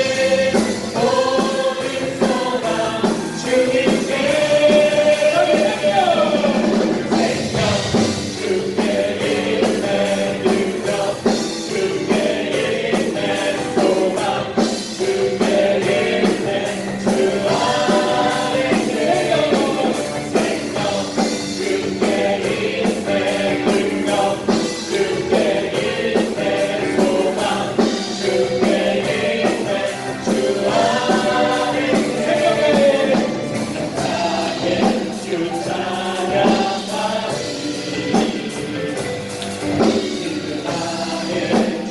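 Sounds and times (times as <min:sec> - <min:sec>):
full band with drums: 0:00.0 - 0:41.9
group singing praise song: 0:00.0 - 0:41.9.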